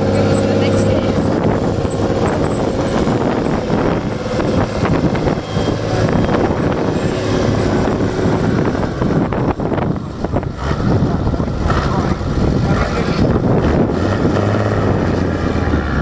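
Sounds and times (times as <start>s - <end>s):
monster truck engine running roughly: 0.0s - 16.0s.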